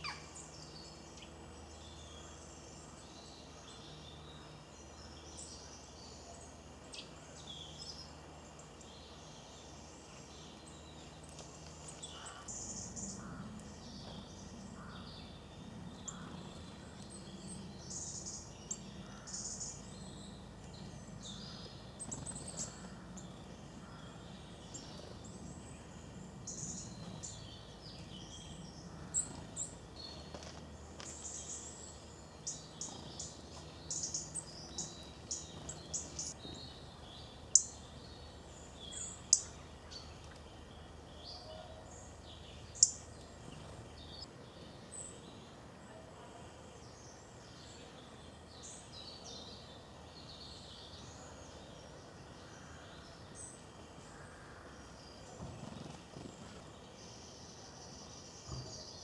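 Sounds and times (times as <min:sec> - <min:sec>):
faint low hum: 0:00.0 - 0:59.0
songbirds chirping: 0:00.0 - 0:59.0.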